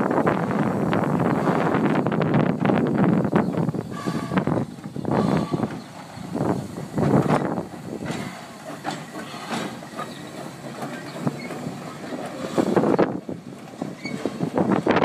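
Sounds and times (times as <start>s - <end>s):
steam train running on rails: 0.0s - 15.0s
wheels clacking and knocking: 1.2s - 15.0s.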